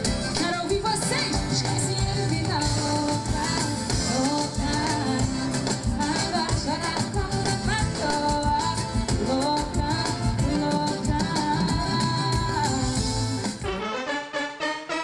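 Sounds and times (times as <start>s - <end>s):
live band playing latin pop: 0.0s - 15.0s
woman singing into microphone: 0.2s - 13.6s.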